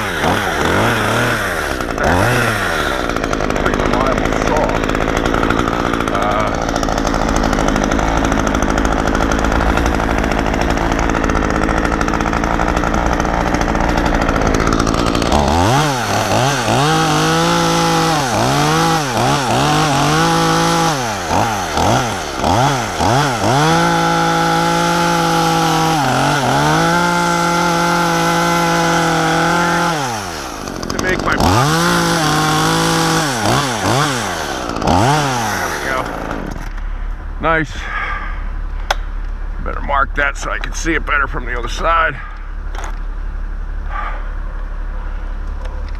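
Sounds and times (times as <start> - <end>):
chainsaw running and revving: 0.0 - 36.9.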